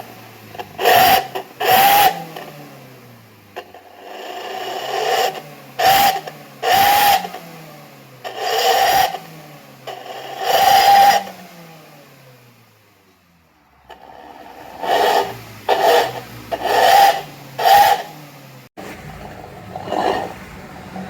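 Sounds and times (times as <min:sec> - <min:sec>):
engine revving raspy growl: 0:00.0 - 0:12.2, 0:13.6 - 0:21.0.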